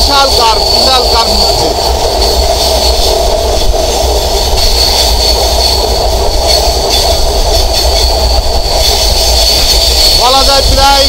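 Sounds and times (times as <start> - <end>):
train wheels and carriages rumbling: 0.0 - 11.0.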